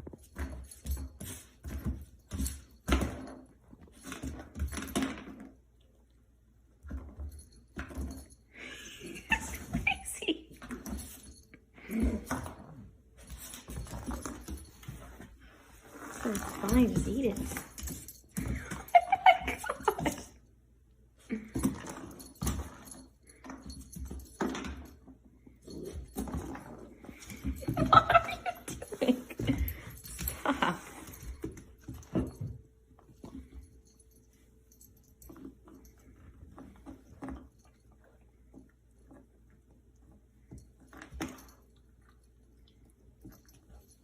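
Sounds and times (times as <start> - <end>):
puppy playing on hard floor: 0.0 - 5.8, 6.8 - 20.4, 21.3 - 44.0.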